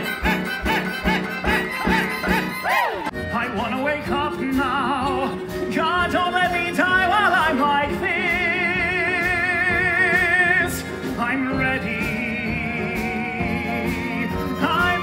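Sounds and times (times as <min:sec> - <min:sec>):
instrumental accompaniment: 0:00.0 - 0:15.0
man singing with vibrato: 0:00.0 - 0:15.0.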